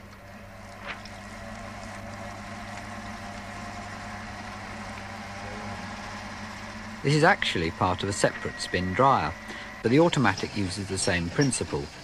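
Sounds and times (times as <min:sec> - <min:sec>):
spin-dryer motor humming: 0:00.0 - 0:12.0
water spraying out: 0:00.5 - 0:11.9.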